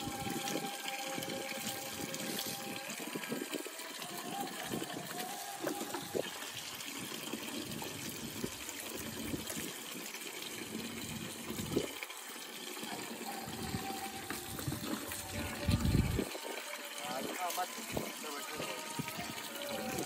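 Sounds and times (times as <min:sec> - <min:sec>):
tap water running into bucket: 0:00.0 - 0:20.0.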